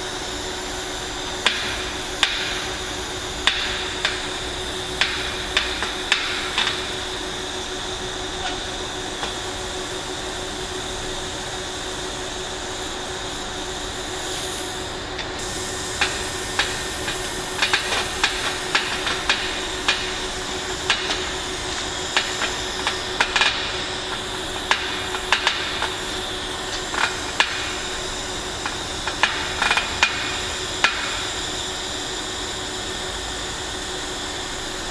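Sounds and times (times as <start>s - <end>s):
welding arc hiss and hum: 0.0s - 34.9s.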